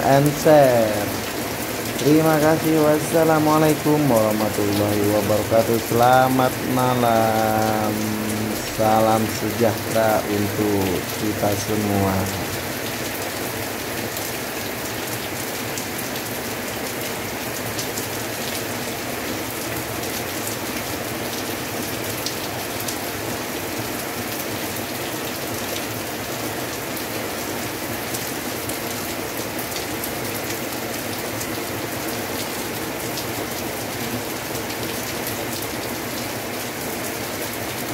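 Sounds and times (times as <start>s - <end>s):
heavy rain pouring: 0.0s - 37.9s
raindrops ticking close by: 0.0s - 37.9s.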